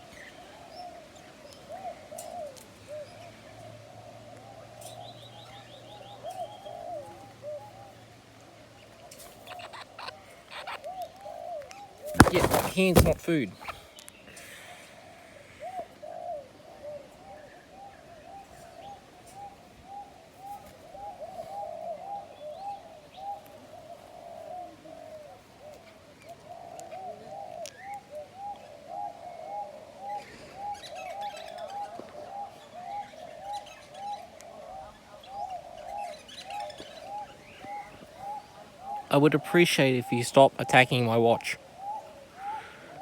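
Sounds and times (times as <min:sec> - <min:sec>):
bird calling: 0:00.0 - 0:43.0.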